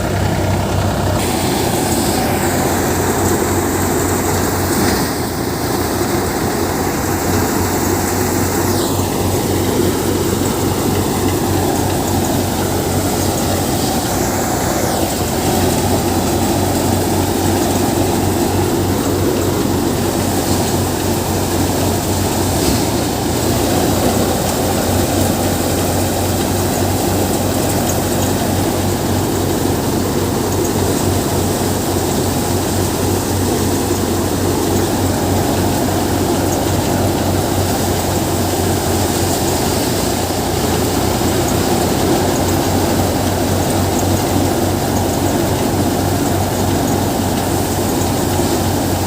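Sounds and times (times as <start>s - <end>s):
thresher rushing mechanical noise: 0.0s - 49.0s
tractor diesel engine hum: 0.0s - 49.0s.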